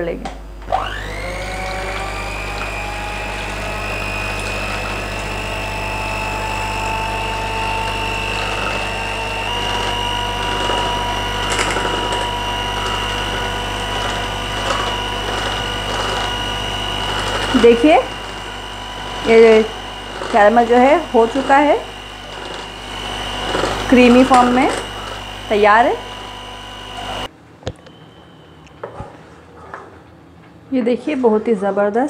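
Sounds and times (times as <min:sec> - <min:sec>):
electric hand mixer whining: 0:00.6 - 0:27.3
beaters whisking cream: 0:01.4 - 0:27.3.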